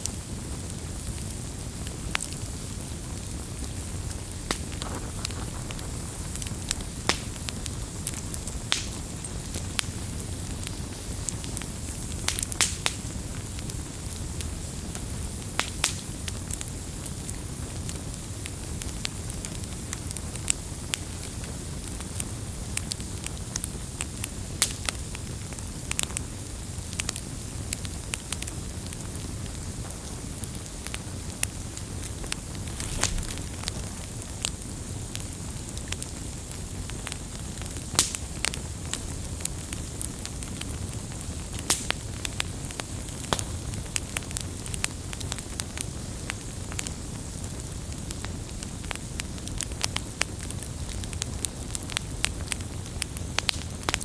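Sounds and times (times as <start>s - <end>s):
burning wood crackling and popping: 0.0s - 54.0s
flames rushing: 0.0s - 54.0s.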